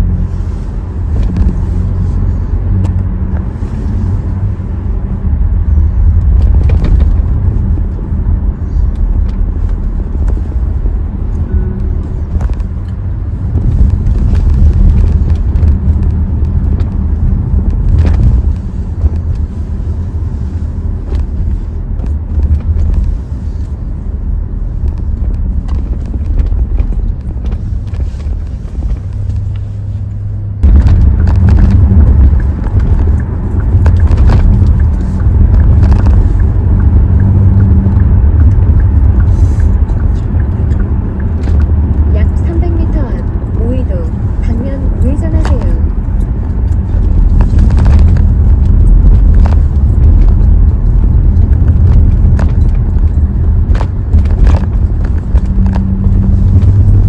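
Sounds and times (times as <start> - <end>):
car engine and exhaust drone: 0.0 - 57.0
road noise: 0.0 - 57.0.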